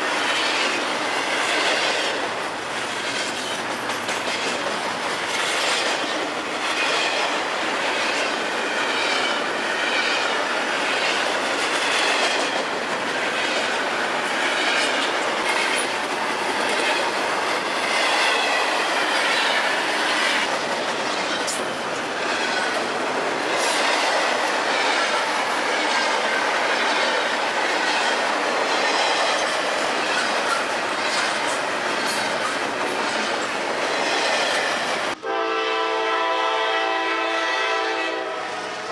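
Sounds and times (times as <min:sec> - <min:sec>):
freight train cars rolling: 0:00.0 - 0:38.9
wheels clicking on rail: 0:00.1 - 0:35.2.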